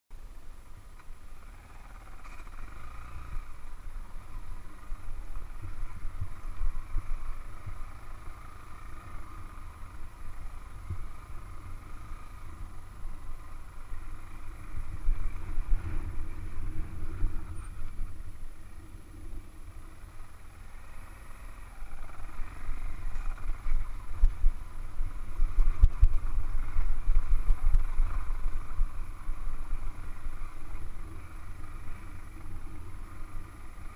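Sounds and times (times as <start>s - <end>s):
wind rumbling on microphone: 0.2s - 33.9s
small motorcycle engine: 0.9s - 33.9s.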